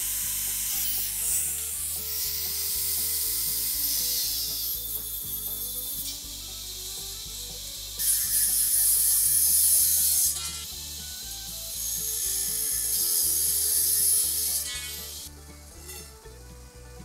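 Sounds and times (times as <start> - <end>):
angle grinder cutting steel: 0.0 - 17.0.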